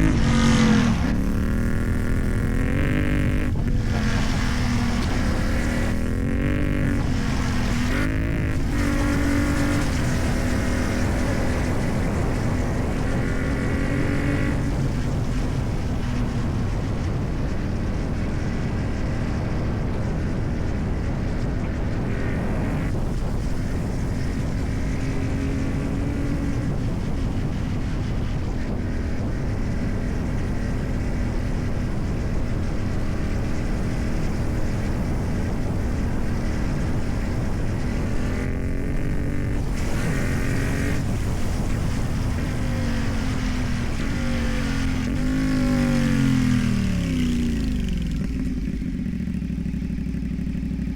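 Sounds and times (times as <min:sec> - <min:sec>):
motorcycle engine running: 0:00.0 - 0:50.9
road and wind noise: 0:00.0 - 0:50.9.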